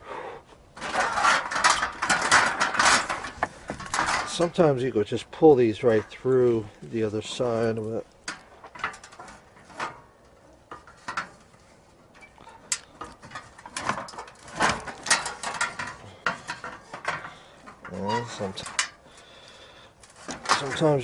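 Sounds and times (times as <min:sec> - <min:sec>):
heater parts clicking and rattling: 0:00.7 - 0:21.0
knocks and scrapes: 0:00.8 - 0:21.0.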